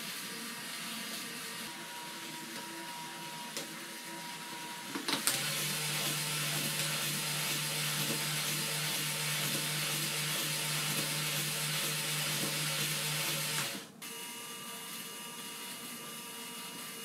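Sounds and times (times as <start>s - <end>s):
electric motor humming: 0.0s - 17.0s.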